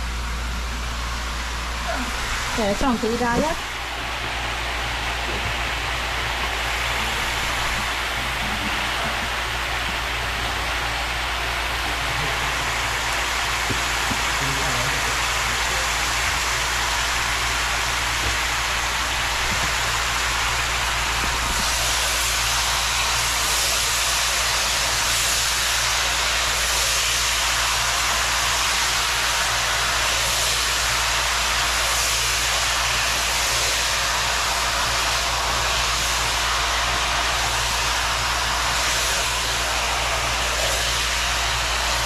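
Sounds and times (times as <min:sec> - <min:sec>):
chicken sizzling in a pot: 0:02.6 - 0:42.0.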